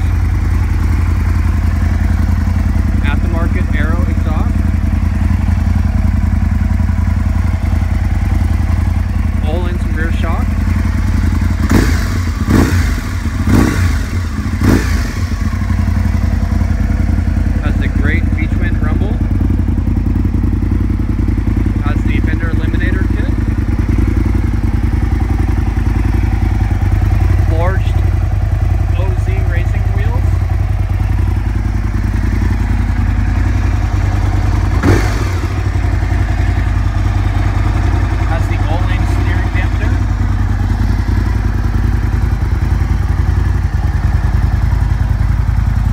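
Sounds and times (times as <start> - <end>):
motorcycle engine idling: 0.0 - 45.9
motorcycle throttle blips: 0.0 - 45.9.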